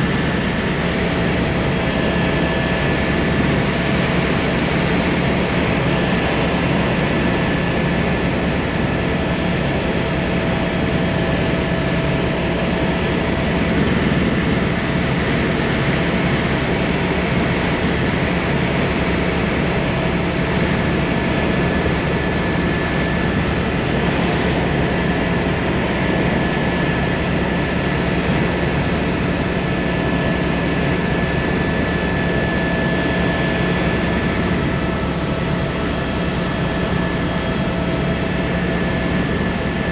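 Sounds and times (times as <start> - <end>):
constant high whine: 0.0 - 39.9
helicopter rotor and turbine drone: 0.0 - 39.9.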